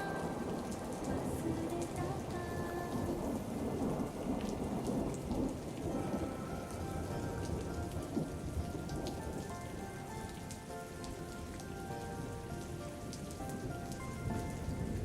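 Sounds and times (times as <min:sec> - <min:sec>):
quiet instrumental music: 0:00.0 - 0:03.9, 0:04.7 - 0:15.0
raindrops ticking: 0:00.0 - 0:15.0
steady rain falling: 0:00.0 - 0:15.0.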